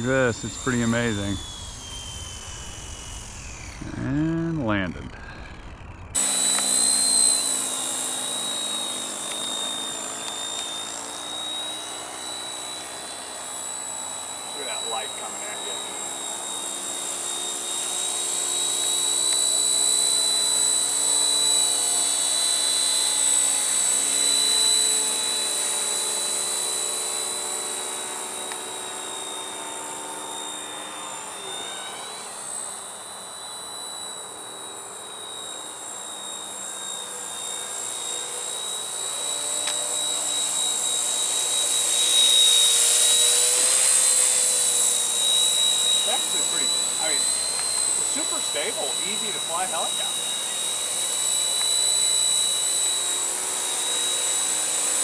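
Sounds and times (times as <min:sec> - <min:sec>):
rc helicopter motor and rotors whine: 0:00.0 - 0:55.0.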